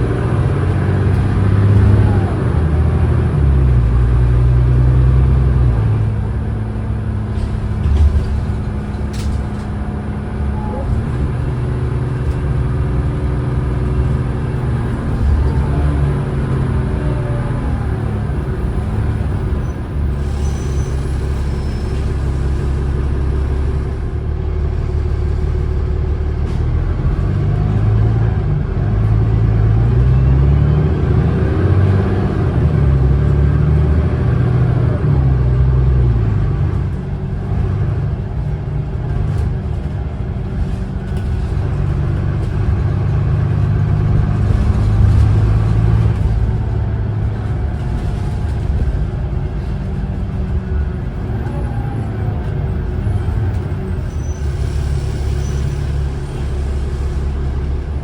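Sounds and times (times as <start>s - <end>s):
bus diesel engine pulling hard: 0.0s - 58.0s.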